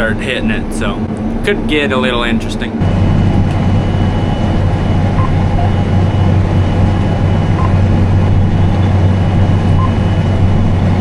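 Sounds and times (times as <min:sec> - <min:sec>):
hay swather engine drone: 0:00.0 - 0:11.0.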